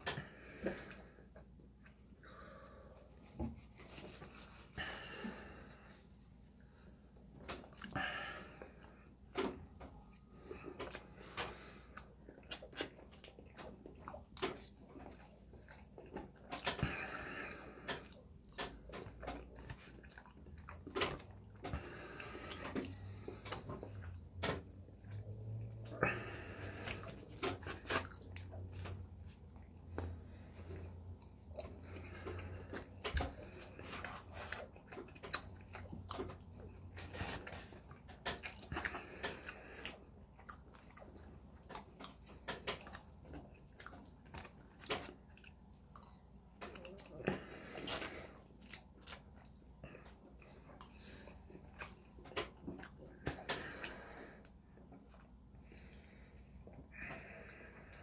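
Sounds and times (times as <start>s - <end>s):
person chewing: 6.6s - 58.0s.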